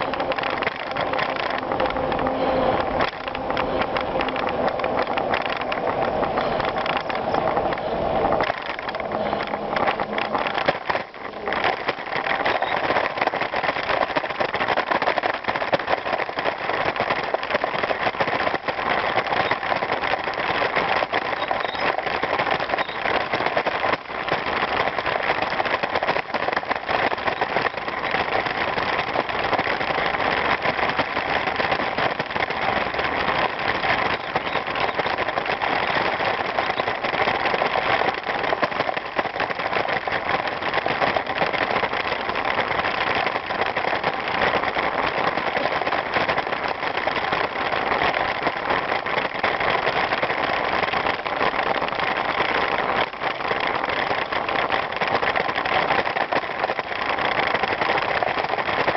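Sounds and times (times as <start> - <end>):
bicycle rattling: 0.0 - 58.9
bicycle tyres crunching gravel: 0.0 - 58.9.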